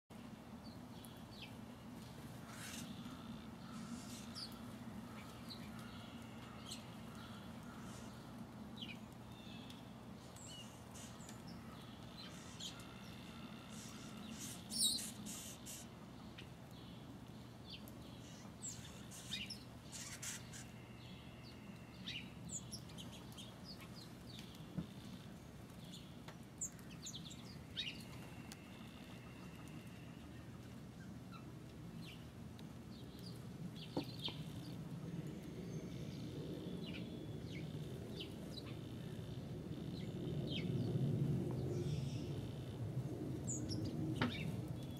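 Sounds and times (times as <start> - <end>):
songbirds chirping: 0.1 - 44.9.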